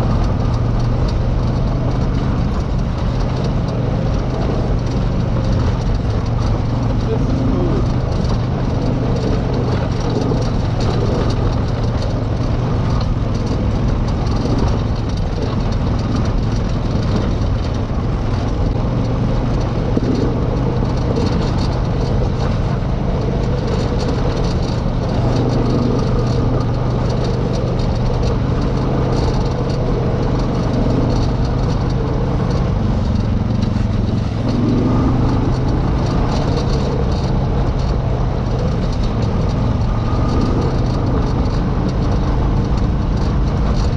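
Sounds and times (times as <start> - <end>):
rattling noise: 0.0 - 43.9
vehicle engine running: 0.0 - 43.9.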